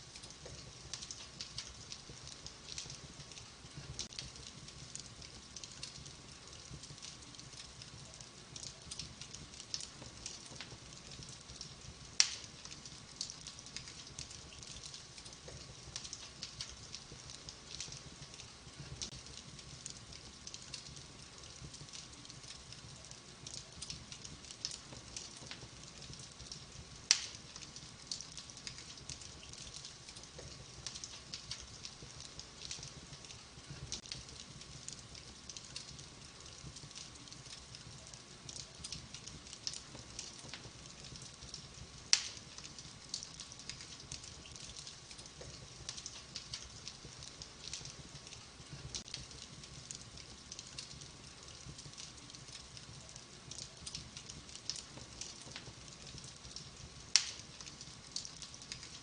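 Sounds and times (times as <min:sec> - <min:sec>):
wood fire crackling: 0:00.0 - 0:59.0
loud fire pops: 0:00.2 - 0:22.7, 0:23.4 - 0:52.7, 0:53.5 - 0:59.0.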